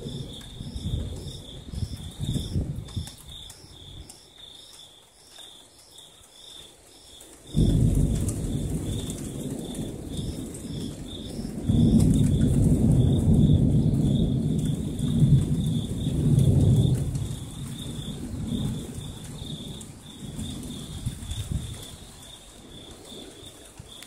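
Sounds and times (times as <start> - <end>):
thunder rumbling: 0.0 - 4.1, 7.5 - 24.0
insects chirping: 0.0 - 24.0.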